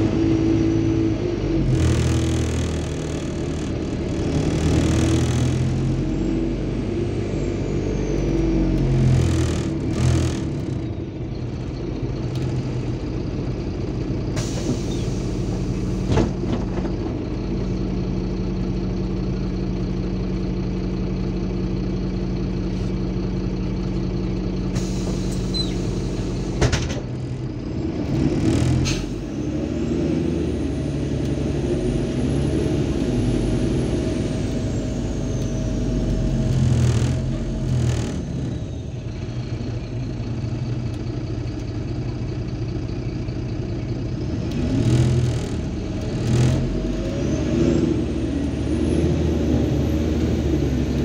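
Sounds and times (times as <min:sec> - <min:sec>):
bus diesel engine running: 0:00.0 - 0:51.0.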